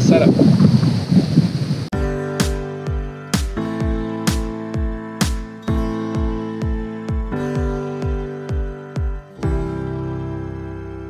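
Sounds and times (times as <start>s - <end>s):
background music beat: 2.0s - 11.0s
held music chord: 2.0s - 11.0s.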